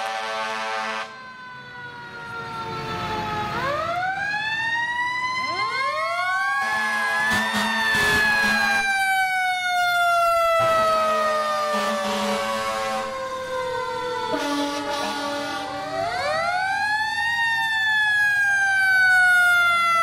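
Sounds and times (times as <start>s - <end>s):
fire truck siren wailing: 0.0s - 20.0s.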